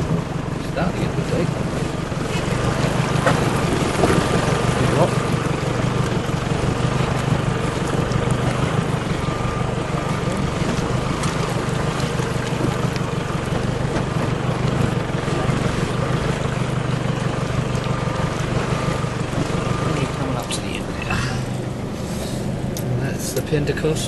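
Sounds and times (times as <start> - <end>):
vehicle engine running at low revs: 0.0 - 24.0
water washing around vehicle: 0.0 - 24.0.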